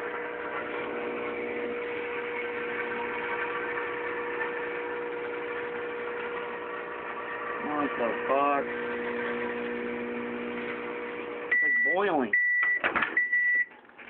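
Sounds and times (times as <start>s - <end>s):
microwave oven humming: 0.0s - 13.8s.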